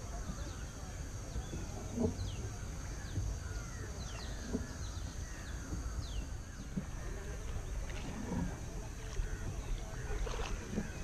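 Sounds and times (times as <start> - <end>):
lower warbling bird calls: 0.1 - 11.0.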